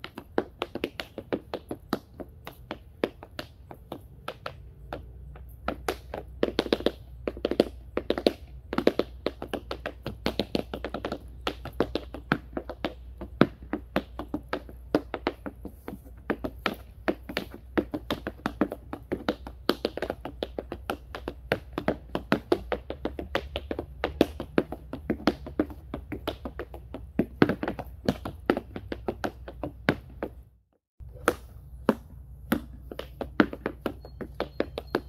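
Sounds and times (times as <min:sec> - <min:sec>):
tap shoes on wooden board: 0:00.0 - 0:30.5, 0:31.1 - 0:35.0.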